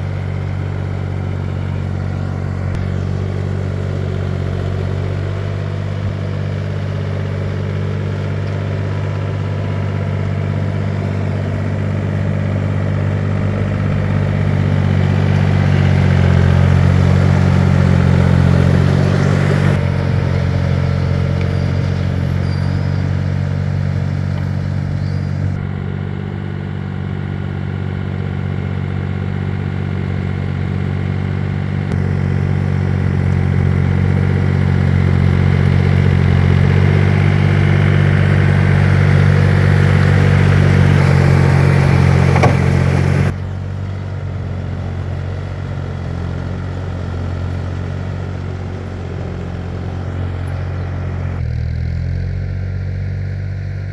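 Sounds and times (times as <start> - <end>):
walking tractor engine running: 0.0 - 53.9.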